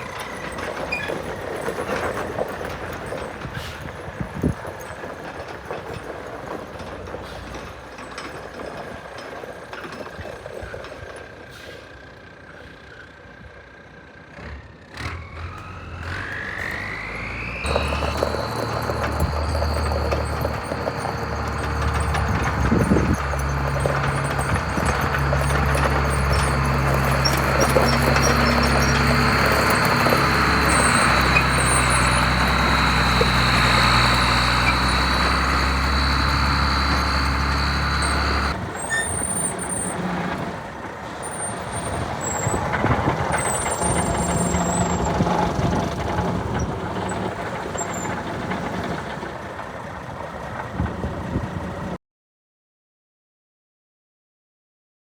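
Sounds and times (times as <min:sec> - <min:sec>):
forklift engine hum: 0:00.0 - 0:09.1, 0:15.1 - 0:52.0.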